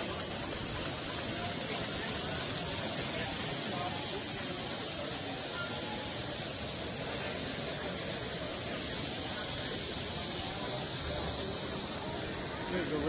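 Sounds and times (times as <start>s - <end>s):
steady even hiss: 0.0s - 13.0s.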